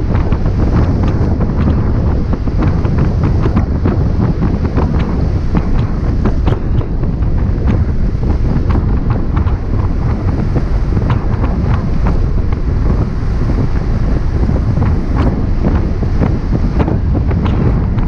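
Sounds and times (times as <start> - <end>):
road noise rumble: 0.0 - 18.0
wind buffeting microphone: 0.0 - 18.0.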